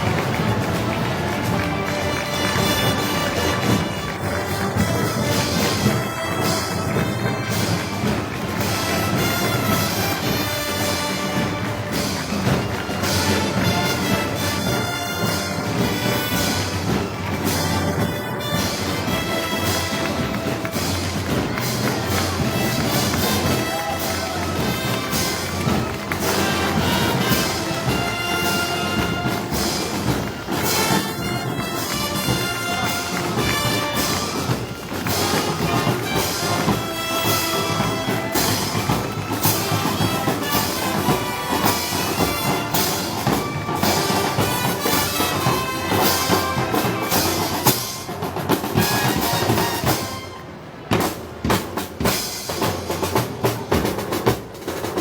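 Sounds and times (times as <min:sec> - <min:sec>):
brass band playing: 0:00.0 - 0:55.0
drum strokes: 0:00.0 - 0:55.0.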